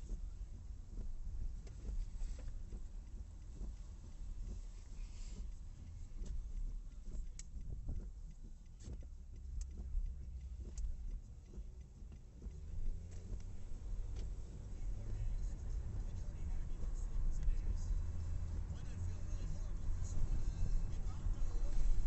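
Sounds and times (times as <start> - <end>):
car engine and road rumble: 0.0 - 22.0
light ticks and clicks: 0.0 - 22.0.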